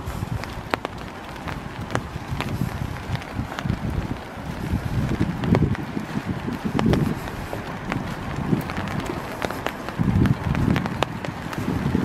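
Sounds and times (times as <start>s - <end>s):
footsteps on wet wooden boardwalk: 0.0s - 12.0s
light rain: 0.0s - 12.0s
rain drops tapping: 0.0s - 12.0s
wind buffeting microphone: 0.0s - 12.0s.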